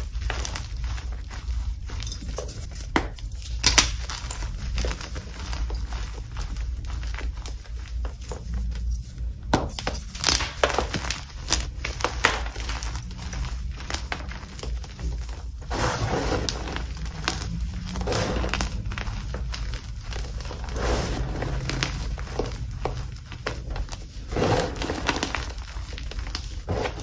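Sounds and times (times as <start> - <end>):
chalk crunching in hands: 0.0 - 27.0
soft powdery crumbling: 0.0 - 27.0.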